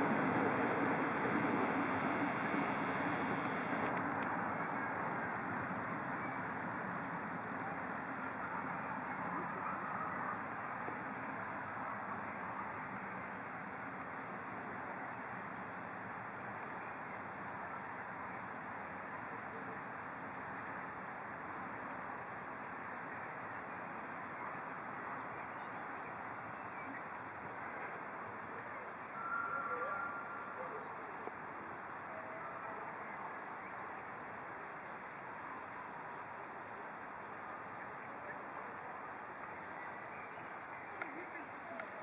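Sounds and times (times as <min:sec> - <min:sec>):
faint outdoor hiss: 0:00.0 - 0:42.0.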